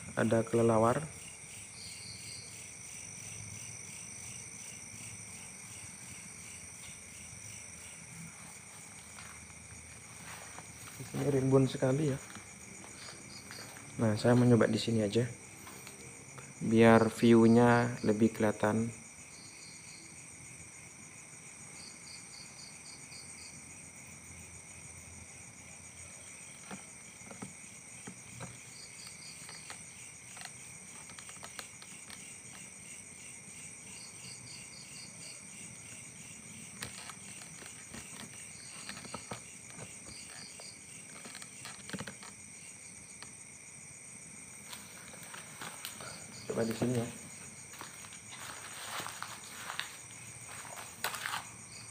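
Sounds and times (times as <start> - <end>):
crickets and insects chirping: 0.0 - 51.9.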